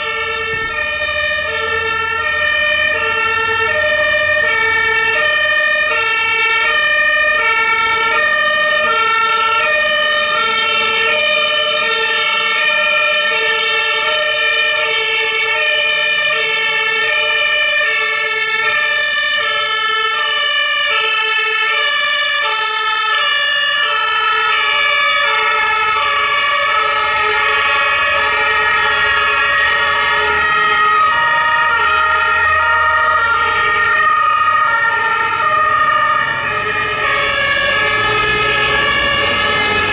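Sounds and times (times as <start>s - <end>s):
two-tone emergency sirens: 0.0s - 39.9s
vehicle engines rumbling: 0.0s - 39.9s.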